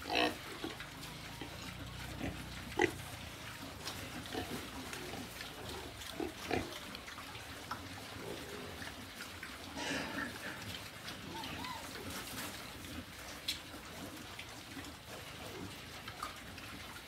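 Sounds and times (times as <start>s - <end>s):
pigs eating: 0.0s - 17.0s
pigs grunting: 0.0s - 17.0s.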